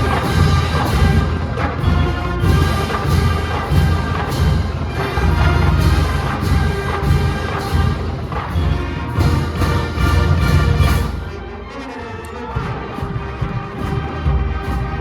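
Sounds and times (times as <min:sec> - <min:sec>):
marching drums beat: 0:00.0 - 0:11.7, 0:12.6 - 0:15.0
brass instruments melody: 0:00.0 - 0:15.0.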